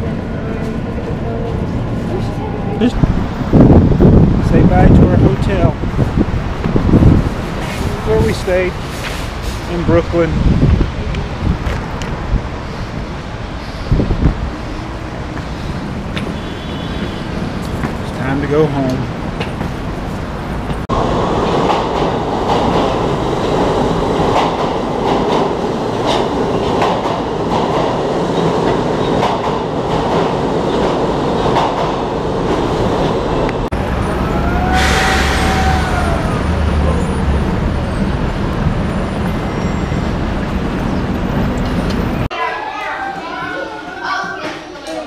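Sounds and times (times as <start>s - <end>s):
subway train rumbling: 0.0s - 42.3s.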